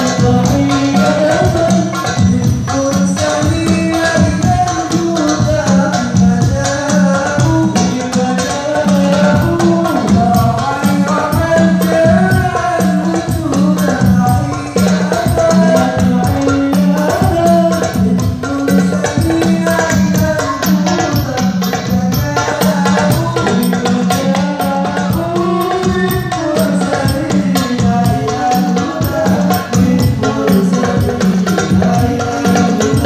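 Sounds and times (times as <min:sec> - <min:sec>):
frame drums beaten by hand: 0:00.0 - 0:33.0
man singing through microphone: 0:00.0 - 0:33.0.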